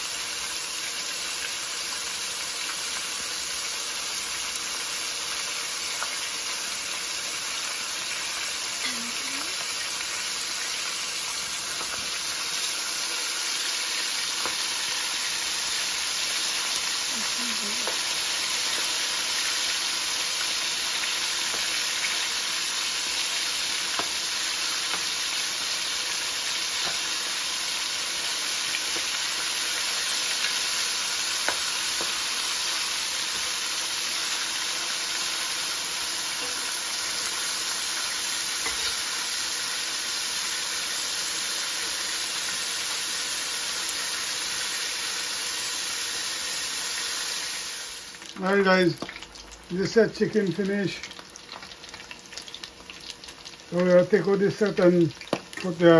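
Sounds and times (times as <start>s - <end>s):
chicken frying in hot oil: 0.0s - 55.9s.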